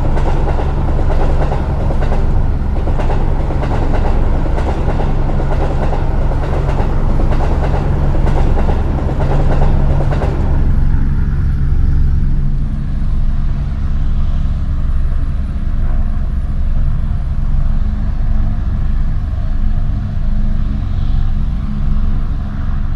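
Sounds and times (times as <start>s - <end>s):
heavy vehicle rattling clatter: 0.0s - 20.7s
heavy vehicle low rumble: 0.0s - 22.9s
low hum: 0.0s - 22.9s.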